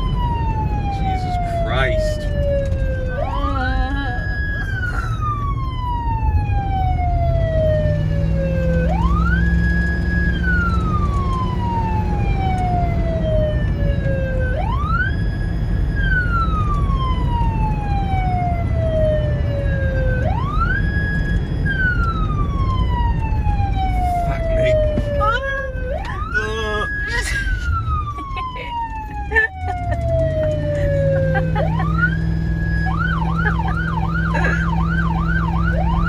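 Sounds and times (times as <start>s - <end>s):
low engine and road rumble: 0.0s - 36.0s
police siren wailing: 0.0s - 36.0s.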